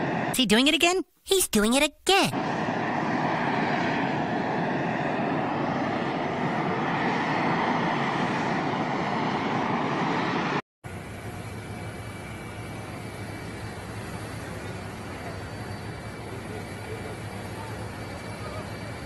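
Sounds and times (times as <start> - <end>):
jet aircraft engines running: 0.0 - 0.4, 2.3 - 19.0
faint high whine: 2.2 - 19.0.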